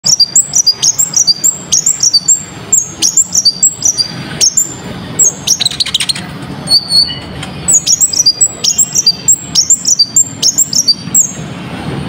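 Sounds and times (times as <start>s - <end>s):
bird chirping and whistling: 0.0s - 11.4s.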